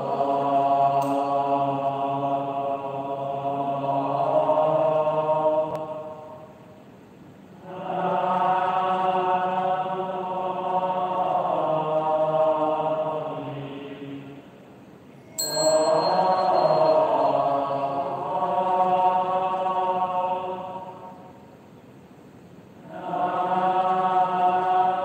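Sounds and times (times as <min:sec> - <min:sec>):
slow devotional chanting: 0:00.0 - 0:25.0.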